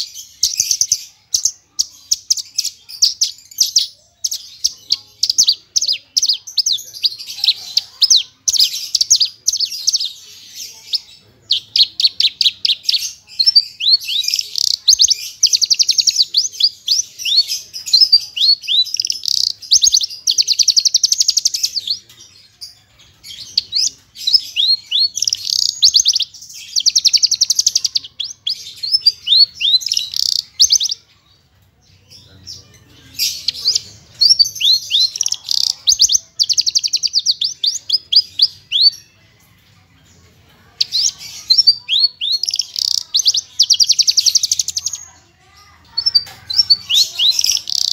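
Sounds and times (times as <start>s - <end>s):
bird singing rapid chirps and trills: 0.0s - 47.9s.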